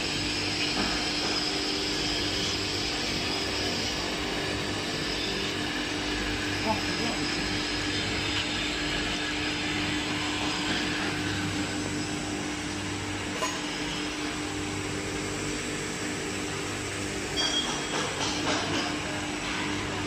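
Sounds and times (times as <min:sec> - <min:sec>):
glass grinding machine running: 0:00.0 - 0:20.0.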